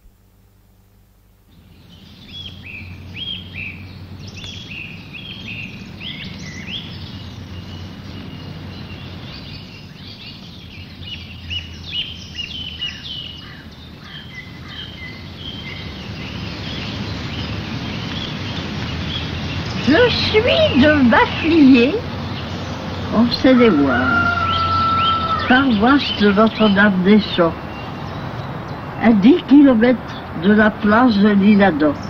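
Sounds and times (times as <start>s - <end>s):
low outdoor rumble: 0.0s - 32.0s
songbirds chirping and singing: 1.5s - 32.0s.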